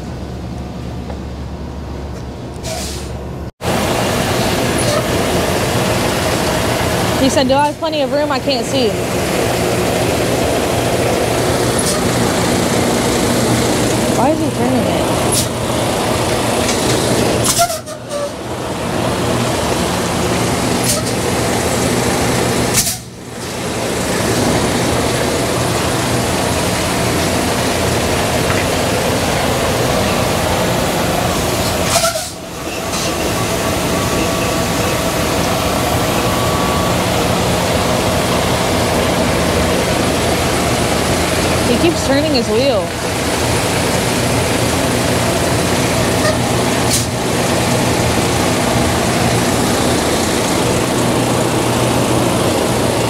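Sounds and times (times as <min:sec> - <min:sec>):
diesel truck engines idling: 0:00.0 - 0:53.0.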